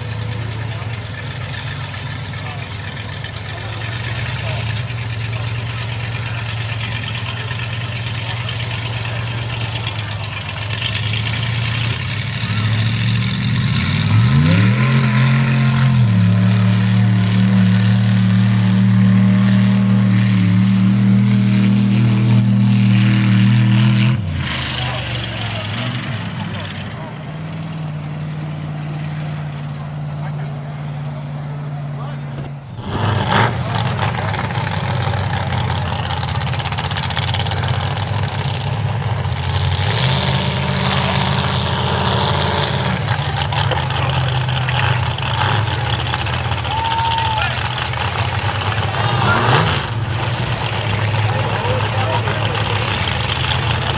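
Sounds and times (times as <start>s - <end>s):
truck engine at full throttle: 0.0s - 53.9s.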